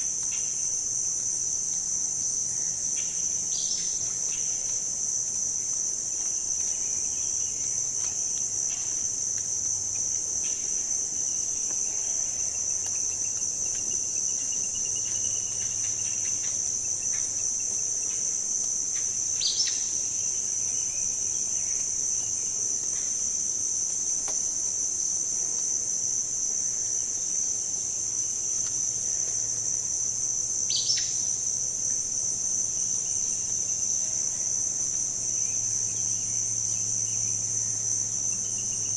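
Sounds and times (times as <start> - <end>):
insect chorus trilling: 0.0 - 38.9.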